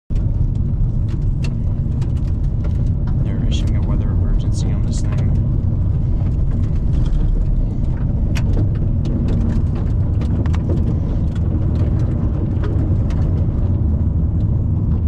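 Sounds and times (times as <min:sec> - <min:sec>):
car road noise rumble: 0:00.1 - 0:15.0
gravel ticks: 0:00.1 - 0:15.0.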